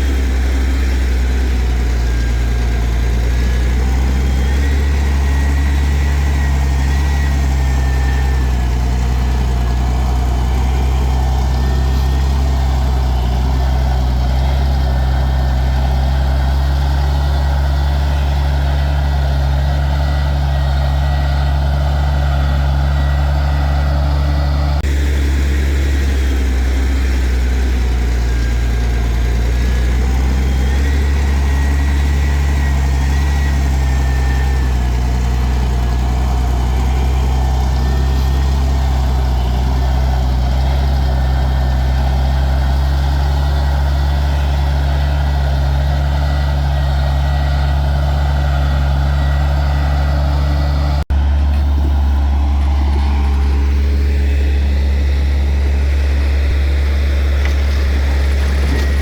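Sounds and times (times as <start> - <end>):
heavy diesel engine humming: 0.0 - 59.0.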